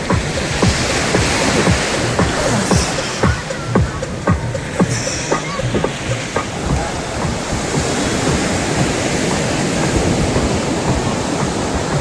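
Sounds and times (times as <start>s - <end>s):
waves breaking on beach: 0.0s - 12.0s
wind buffeting microphone: 0.0s - 12.0s.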